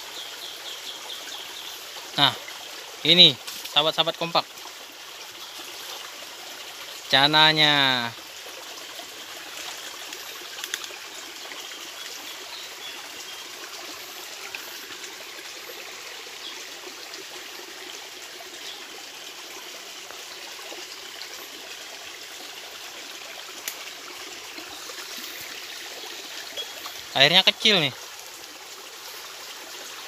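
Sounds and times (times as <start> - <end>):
stream trickling into pool: 0.0 - 30.0.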